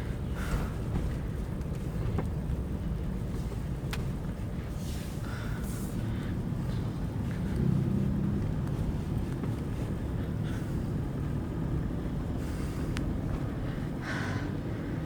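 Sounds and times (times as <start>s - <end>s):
diesel engine droning: 0.0s - 15.0s
road noise: 0.0s - 15.0s.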